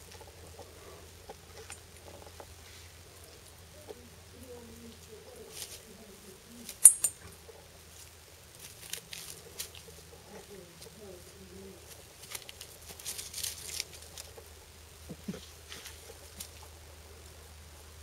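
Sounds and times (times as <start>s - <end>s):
dry grass rustling and crackling: 0.0s - 17.8s.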